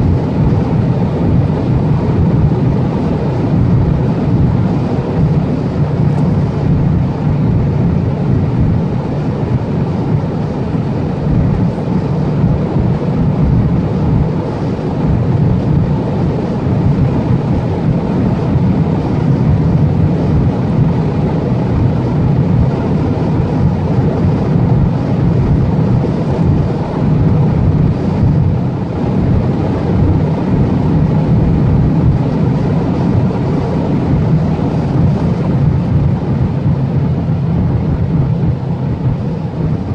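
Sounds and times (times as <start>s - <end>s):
car engine drone: 0.0s - 39.9s
wind and tyre noise: 0.0s - 39.9s.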